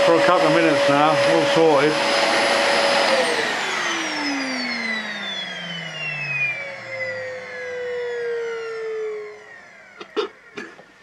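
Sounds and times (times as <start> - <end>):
vacuum cleaner motor spinning down: 0.0 - 11.0.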